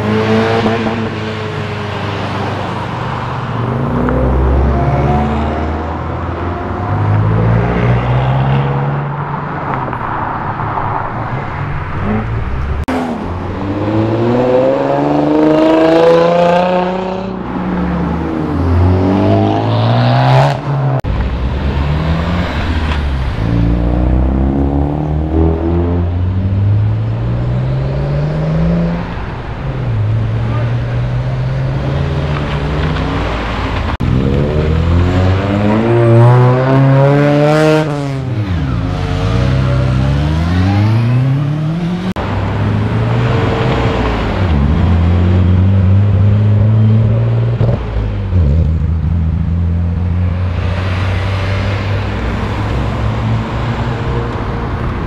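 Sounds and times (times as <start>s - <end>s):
car engines accelerating: 0.0s - 55.0s.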